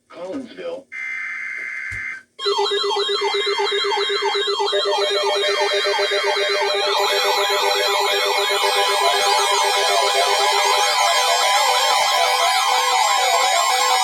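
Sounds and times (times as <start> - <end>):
emergency alert siren tones: 0.9 - 14.0.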